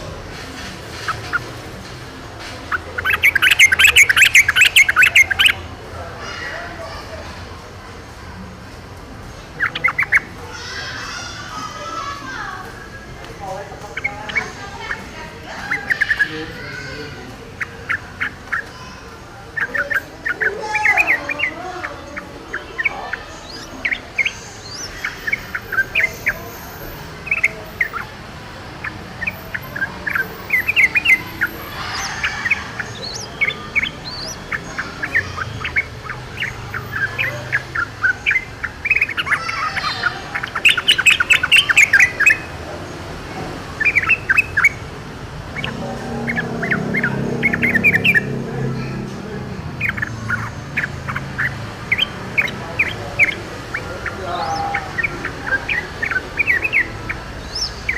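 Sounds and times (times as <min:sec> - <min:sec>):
birds singing and calling: 0:00.0 - 0:57.9.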